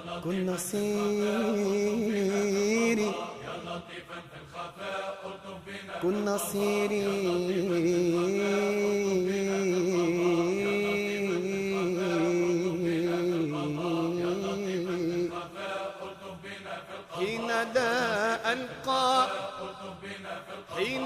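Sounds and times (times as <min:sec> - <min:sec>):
men chanting: 0:00.0 - 0:21.0.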